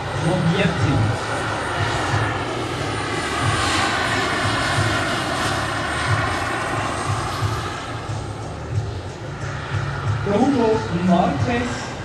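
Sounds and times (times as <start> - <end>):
low pulsing throb: 0.0 - 12.0
model helicopter turbine whining: 0.0 - 12.0.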